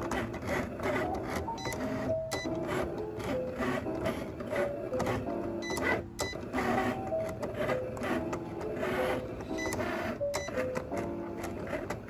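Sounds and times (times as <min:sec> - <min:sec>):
cutting machine motors whining: 0:00.0 - 0:12.0.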